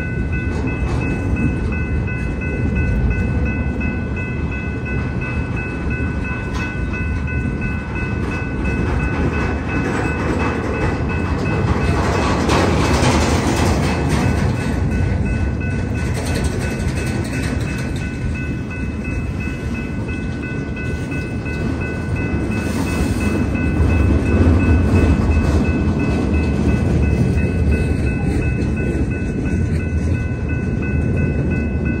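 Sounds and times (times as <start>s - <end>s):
crossing bell ringing: 0.0s - 32.0s
train wheels rumbling on rails: 0.0s - 32.0s.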